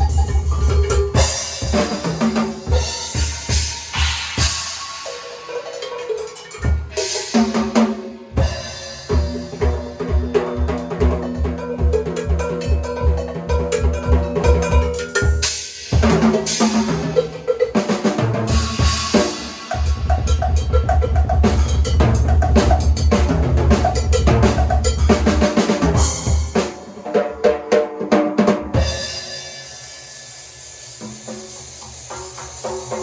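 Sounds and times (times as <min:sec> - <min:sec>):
drum kit playing: 0:00.0 - 0:33.0.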